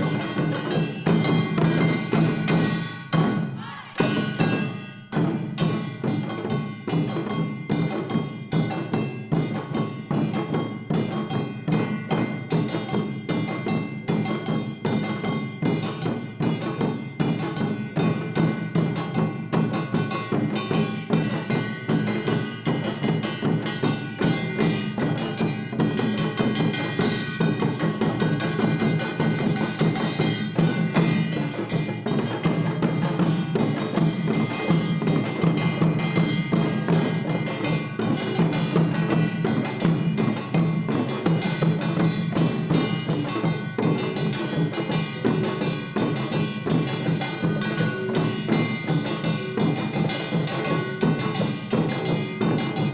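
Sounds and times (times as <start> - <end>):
fast percussion ensemble drumming: 0.0 - 52.9.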